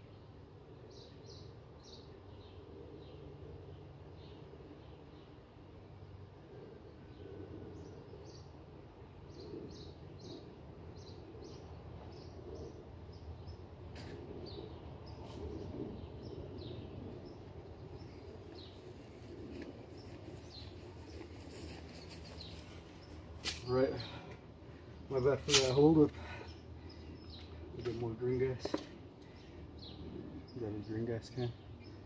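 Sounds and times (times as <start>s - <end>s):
low outdoor background rumble: 0.0s - 32.0s.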